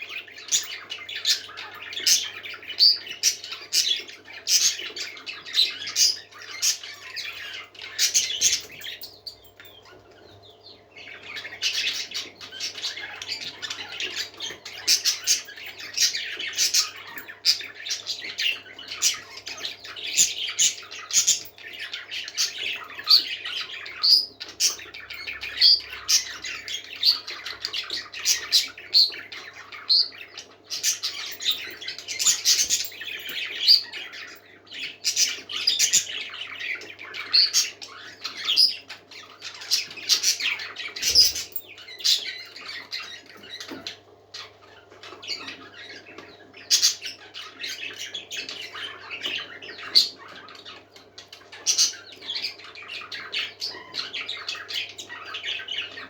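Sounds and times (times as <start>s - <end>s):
parakeets chattering and chirping: 0.0s - 56.0s.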